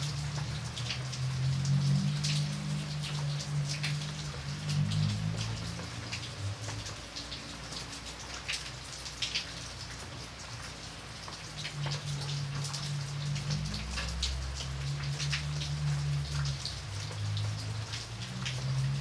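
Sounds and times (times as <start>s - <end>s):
raindrops ticking on surface: 0.0s - 19.0s
soft rain hiss: 0.0s - 19.0s.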